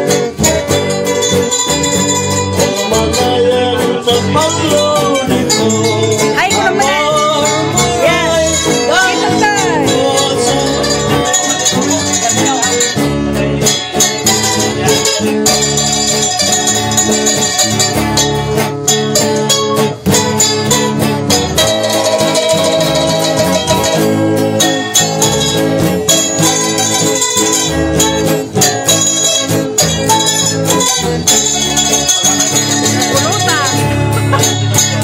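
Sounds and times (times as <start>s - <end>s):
acoustic guitar: 0.0s - 35.0s
upright bass: 0.0s - 35.0s.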